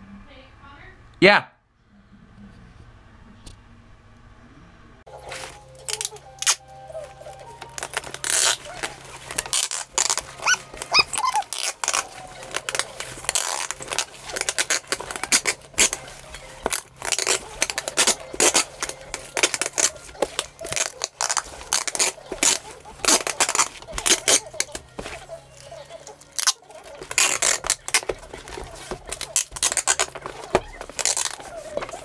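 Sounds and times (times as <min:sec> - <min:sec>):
music: 0:05.1 - 0:32.0
plastic wrap crinkling and tearing: 0:05.1 - 0:32.0.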